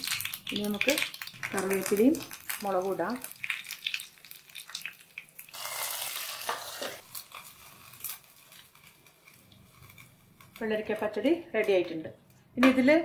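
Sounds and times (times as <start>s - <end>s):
loud sizzle: 0.0s - 11.9s
spices crackling in hot oil: 0.0s - 12.0s.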